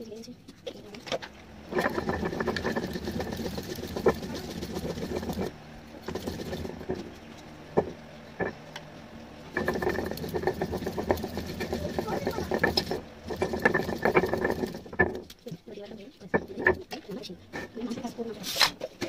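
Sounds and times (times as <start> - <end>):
stone grinding on stone: 1.0 - 8.6, 9.5 - 15.6, 16.2 - 18.0.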